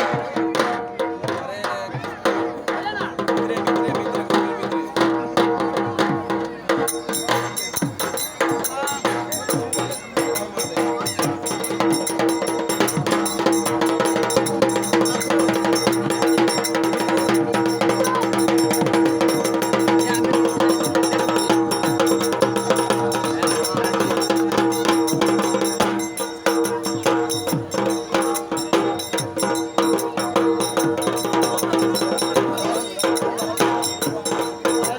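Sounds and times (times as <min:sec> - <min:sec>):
fast percussion music: 0:00.0 - 0:34.9.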